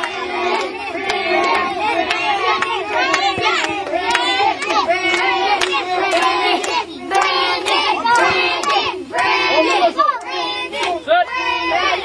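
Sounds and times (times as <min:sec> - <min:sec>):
hand claps: 0:00.0 - 0:11.0
children cheering and shouting: 0:00.0 - 0:12.0.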